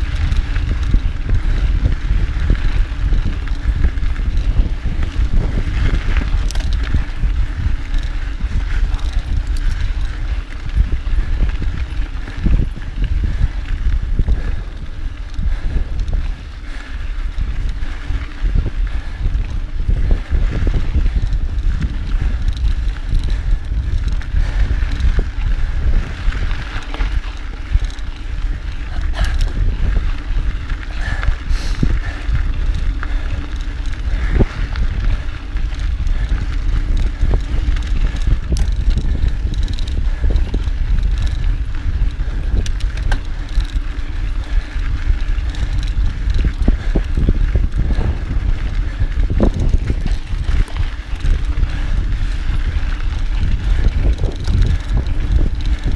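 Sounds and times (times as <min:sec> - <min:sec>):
bike knocking and rattling: 0:00.0 - 0:55.9
tyres on dirt and gravel: 0:00.0 - 0:55.9
wind rumbling on microphone: 0:00.0 - 0:55.9.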